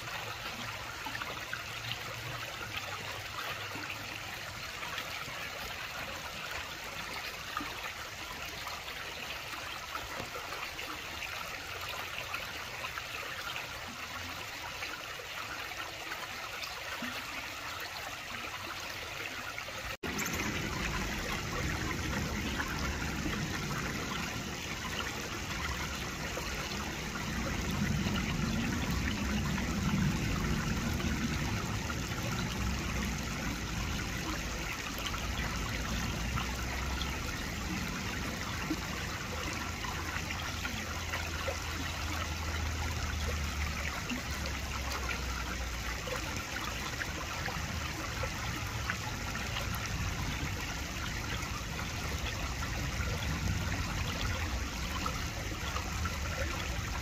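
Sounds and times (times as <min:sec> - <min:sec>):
water trickling over stones: 0:00.0 - 0:57.0.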